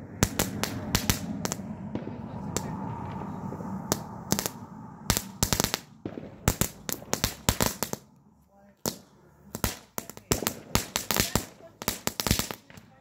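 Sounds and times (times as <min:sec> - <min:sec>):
firework hissing: 0:00.0 - 0:08.2, 0:08.8 - 0:13.0
sharp cracking pops: 0:00.1 - 0:03.2, 0:03.9 - 0:13.0.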